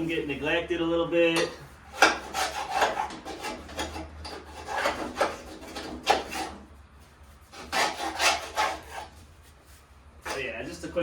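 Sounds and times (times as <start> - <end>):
scraper scraping grass off metal: 1.6 - 10.8.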